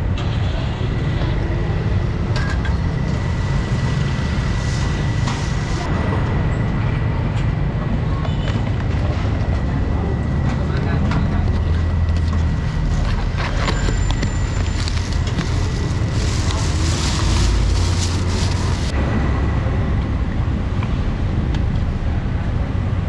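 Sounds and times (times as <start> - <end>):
low street rumble: 0.0 - 23.0.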